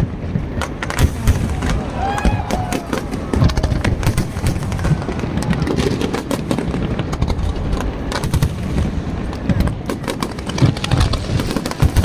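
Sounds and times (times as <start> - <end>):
low rumble: 0.0 - 11.4
fireworks bangs and crackles: 0.0 - 12.0.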